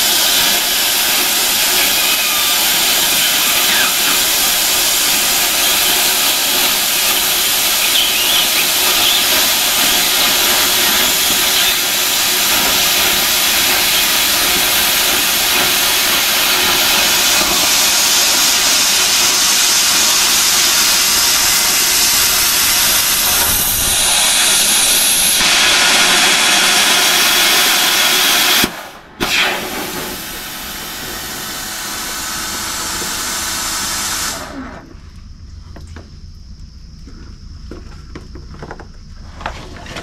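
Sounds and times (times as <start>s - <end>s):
plasma cutter hissing: 0.0s - 34.6s.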